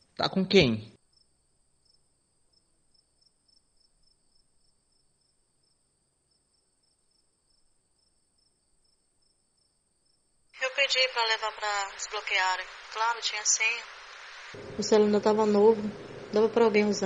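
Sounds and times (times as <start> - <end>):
crickets chirping faintly: 1.0 - 15.0.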